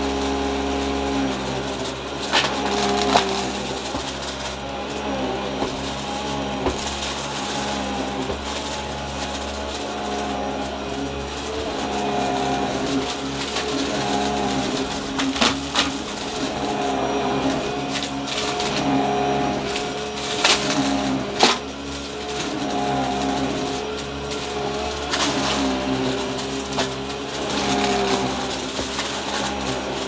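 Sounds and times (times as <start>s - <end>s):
debris crunching in vacuum: 0.0s - 30.0s
upright vacuum cleaner running: 0.0s - 30.0s.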